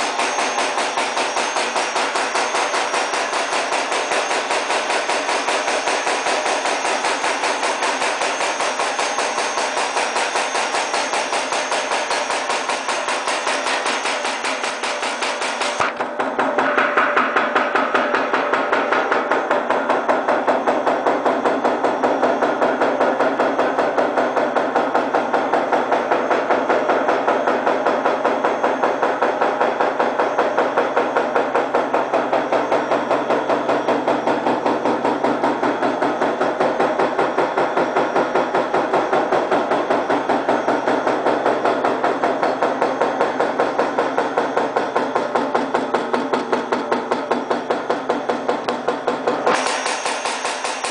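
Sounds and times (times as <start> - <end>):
punch press metallic clanks: 0.0 - 50.9.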